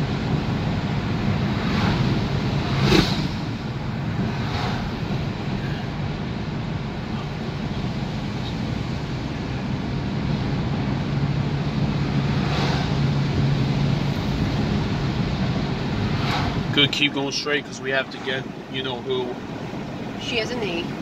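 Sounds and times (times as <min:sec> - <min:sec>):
car cabin road noise: 0:00.0 - 0:21.0
passing vehicle whoosh: 0:00.0 - 0:21.0.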